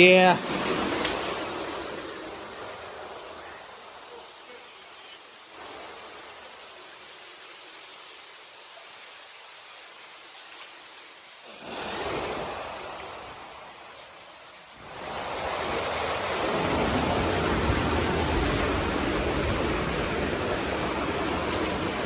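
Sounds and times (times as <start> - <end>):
rushing water hiss: 0.0 - 22.0.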